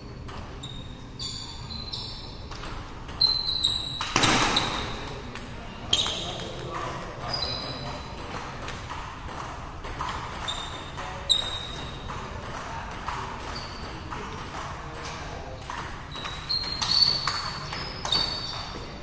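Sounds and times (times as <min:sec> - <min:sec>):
table tennis ball hits: 0:02.5 - 0:07.0, 0:08.1 - 0:19.0.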